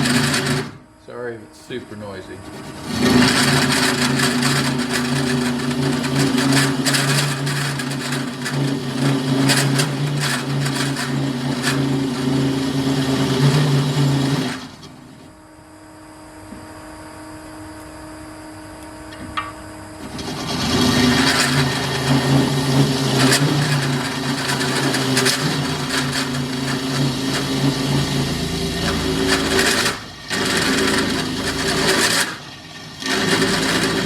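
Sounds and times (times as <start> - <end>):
cutter scraping and crackling steel: 0.0 - 0.8, 1.7 - 15.2, 20.1 - 34.0
drill press whine: 0.0 - 34.0
quiet steady machine hum: 0.0 - 34.0.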